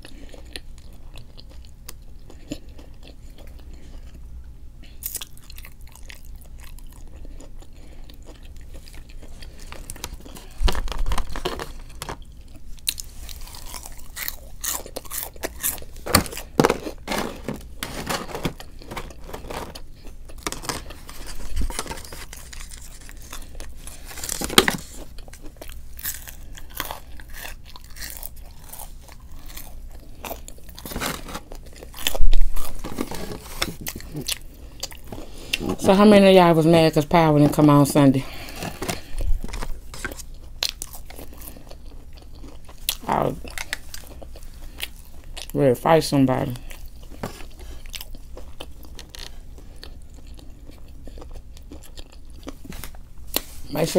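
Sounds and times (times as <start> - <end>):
person chewing and crunching: 0.0 - 36.1, 36.7 - 45.6, 46.2 - 53.9.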